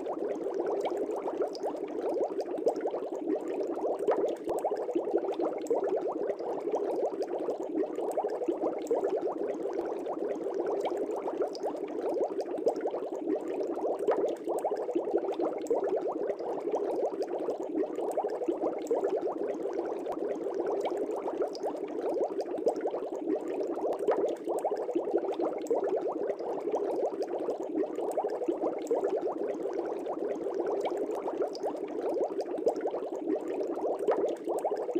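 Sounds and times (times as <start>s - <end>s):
aquarium air bubbling: 0.0s - 34.9s.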